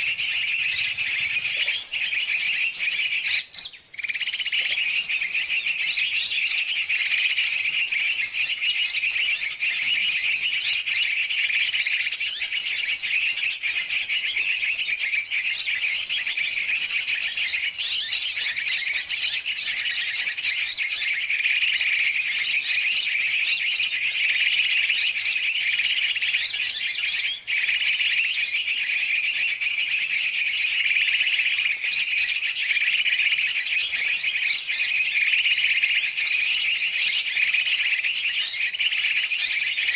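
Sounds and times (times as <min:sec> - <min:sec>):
many birds calling: 0:00.0 - 0:39.9.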